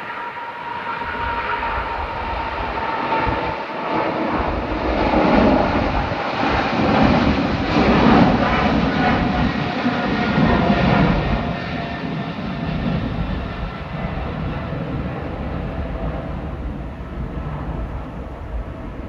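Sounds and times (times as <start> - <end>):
faint engine whine: 0.0 - 19.0
jet engines roaring: 0.0 - 19.0.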